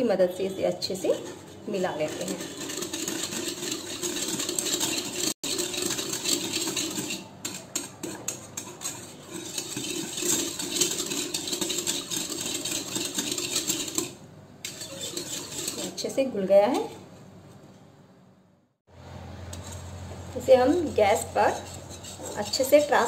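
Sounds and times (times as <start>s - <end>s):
whisk scraping metal pot: 0.9s - 16.2s, 19.5s - 23.0s.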